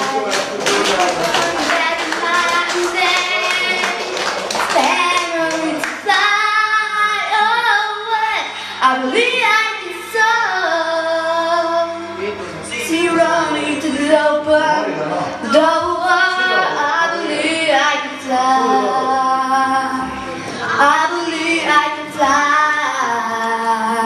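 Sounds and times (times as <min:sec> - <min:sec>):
woman singing: 0:01.4 - 0:04.0, 0:04.7 - 0:12.0, 0:12.7 - 0:24.0.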